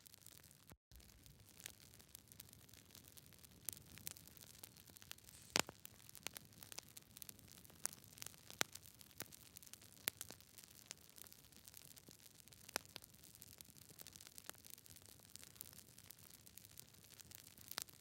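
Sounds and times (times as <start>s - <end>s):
fire crackling: 0.0s - 18.0s.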